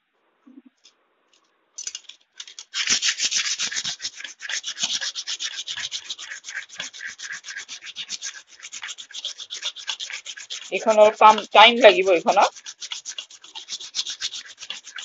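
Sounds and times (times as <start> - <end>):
scissor blade rubbing on wet stone: 1.8 - 15.0.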